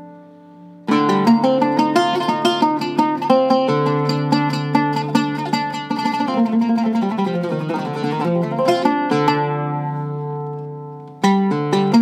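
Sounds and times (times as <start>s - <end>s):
oud plucked notes: 0.0s - 12.0s.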